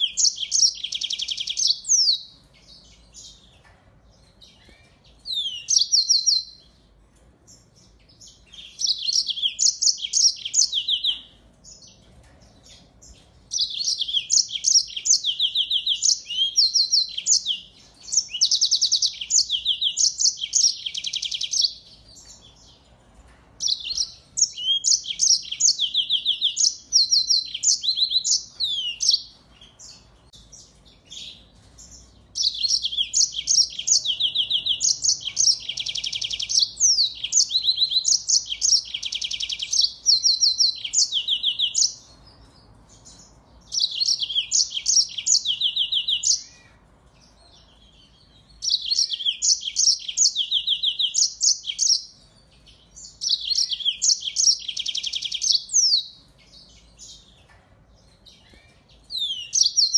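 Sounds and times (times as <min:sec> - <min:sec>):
canary singing trills and chirps: 0:00.0 - 0:59.9.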